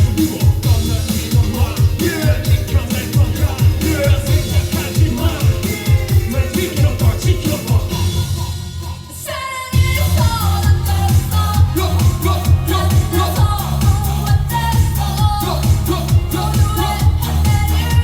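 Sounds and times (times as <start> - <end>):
dance-pop band playing: 0.0 - 18.0
woman singing: 0.0 - 18.0.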